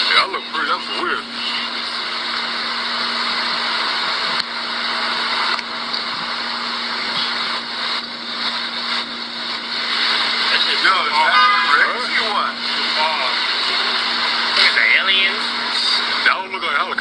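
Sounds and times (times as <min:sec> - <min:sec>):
constant low hum: 0:00.0 - 0:16.7.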